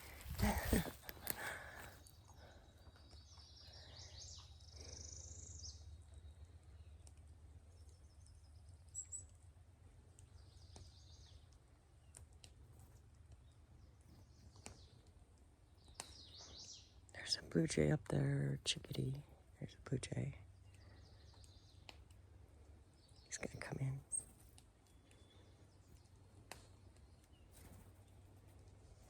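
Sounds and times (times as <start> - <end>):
faint songbird chirps: 0.0 - 29.0.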